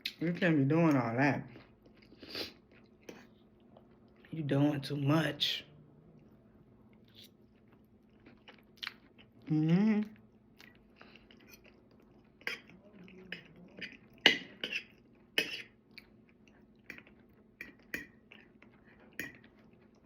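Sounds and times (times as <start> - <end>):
person chewing food: 0.9 - 4.3, 6.1 - 20.0.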